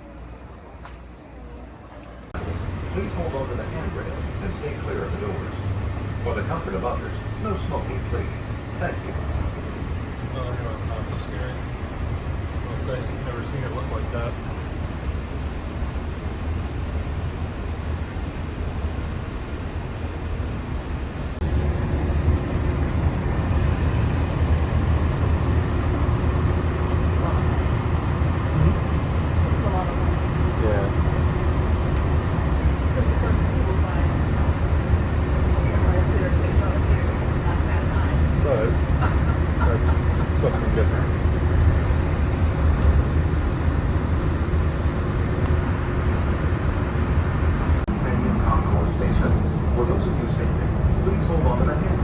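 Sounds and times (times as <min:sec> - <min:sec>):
faint motor hum: 0:00.0 - 0:52.0
monorail low rumble: 0:00.0 - 0:52.0.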